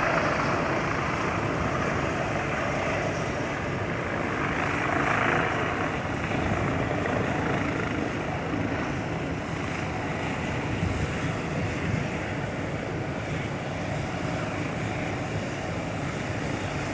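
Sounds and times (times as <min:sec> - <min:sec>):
helicopter rotor and engine: 0:00.0 - 0:16.9.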